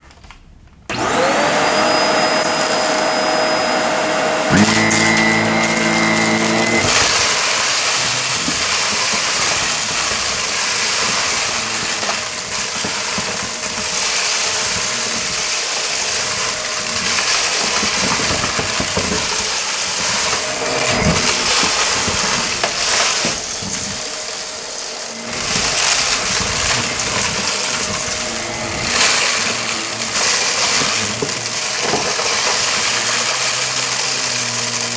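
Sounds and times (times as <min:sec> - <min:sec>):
vacuum cleaner running on carpet: 0:00.9 - 0:34.9.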